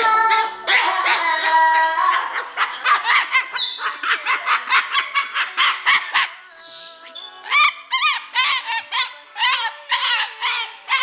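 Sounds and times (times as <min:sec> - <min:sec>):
cockatoo squawking: 0:00.0 - 0:11.0.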